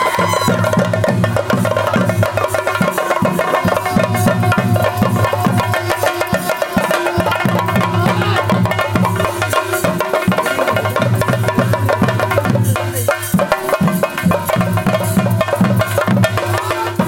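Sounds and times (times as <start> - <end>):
fast drumming with sticks: 0.0 - 17.0.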